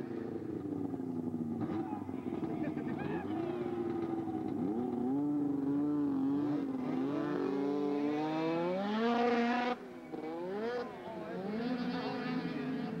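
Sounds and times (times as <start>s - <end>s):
snowmobile engine at high revs: 0.0s - 13.0s.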